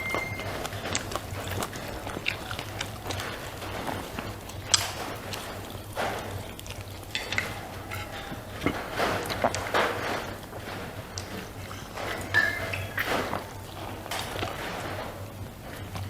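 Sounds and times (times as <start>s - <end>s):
chewing and wet mouth noises: 0.0s - 16.0s.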